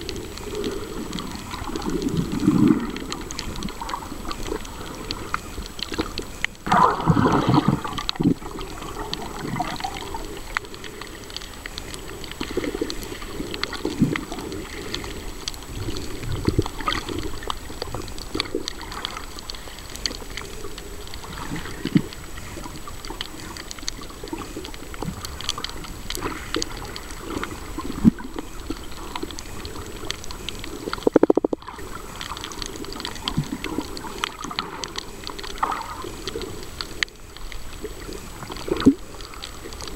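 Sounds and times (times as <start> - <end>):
water gurgling underwater: 0.0 - 39.9.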